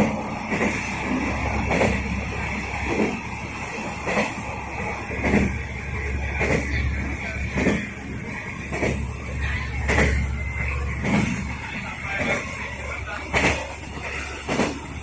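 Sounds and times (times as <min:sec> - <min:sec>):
diesel railcar droning: 0:00.0 - 0:15.0
wheels clacking over rail joints: 0:01.5 - 0:03.2, 0:04.0 - 0:15.0.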